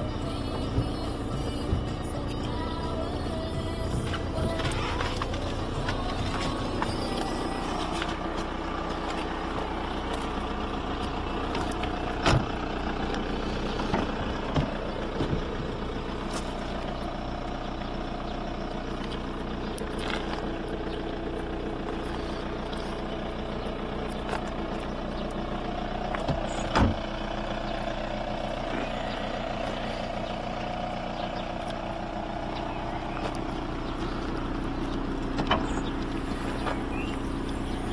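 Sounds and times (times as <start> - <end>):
diesel engine idling: 0.0 - 37.9.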